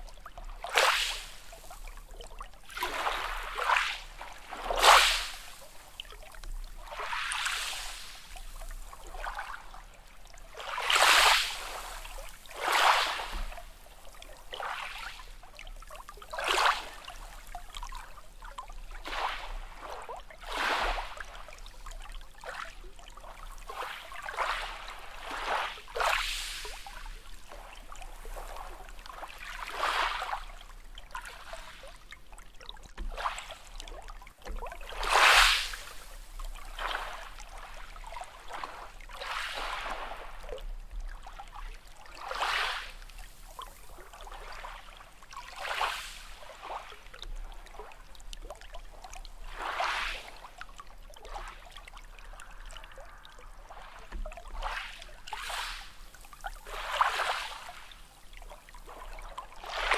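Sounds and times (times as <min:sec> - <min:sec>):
small sea waves washing: 0:00.0 - 0:59.9.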